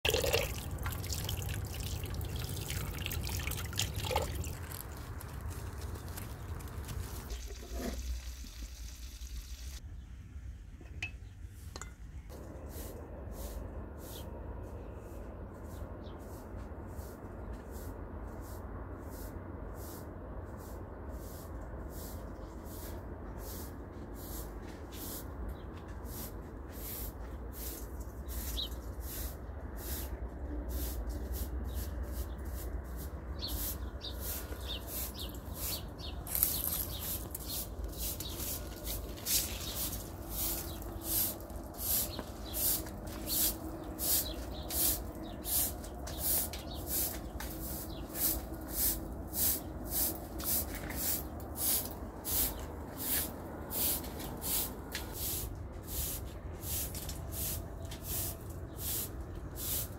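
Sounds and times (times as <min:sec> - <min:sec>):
straw broom sweeping concrete: 0:00.1 - 0:09.8, 0:11.6 - 0:59.9
low wind rumble: 0:00.1 - 0:59.7.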